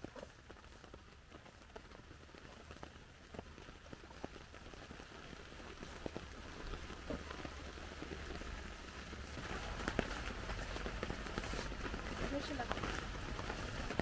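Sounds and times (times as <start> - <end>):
raindrops ticking: 0.0 - 14.0
steady rain: 0.0 - 14.0.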